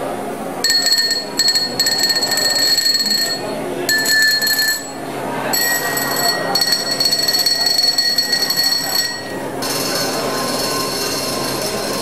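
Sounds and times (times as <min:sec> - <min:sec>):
drinking glass buzzing and ringing: 0:00.6 - 0:11.4.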